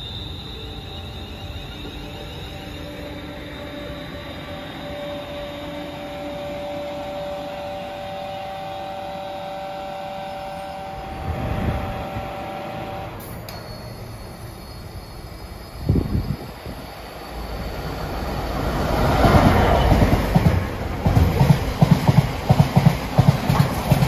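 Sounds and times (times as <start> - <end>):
train rumble: 0.0 - 24.0
train traction whine: 0.0 - 24.0.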